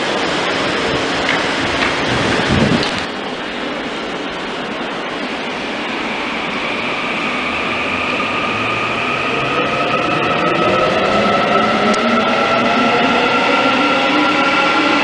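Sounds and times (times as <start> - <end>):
train cars rumbling: 0.0 - 15.0.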